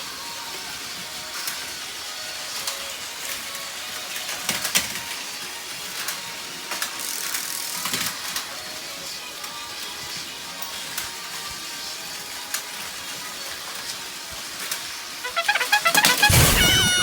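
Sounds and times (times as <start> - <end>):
toy train motors whirring: 0.0 - 17.0
toy train cars clattering: 0.1 - 16.2.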